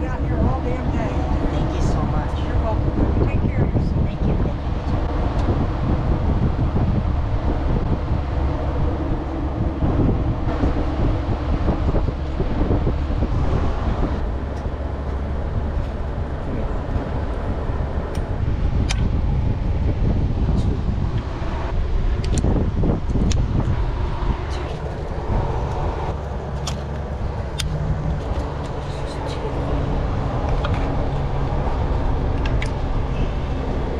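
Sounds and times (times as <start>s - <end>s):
car engine running: 0.0s - 33.9s
wind buffeting microphone: 0.0s - 33.9s.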